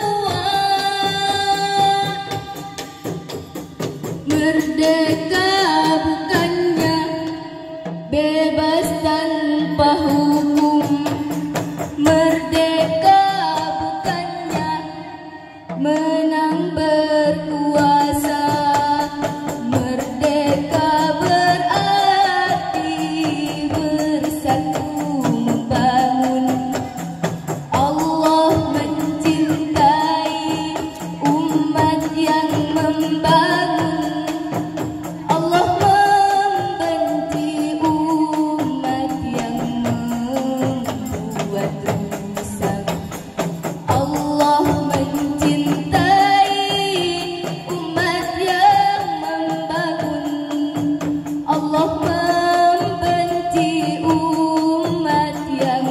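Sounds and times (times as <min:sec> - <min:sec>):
women singing together: 0:00.0 - 0:03.1, 0:04.2 - 0:55.9.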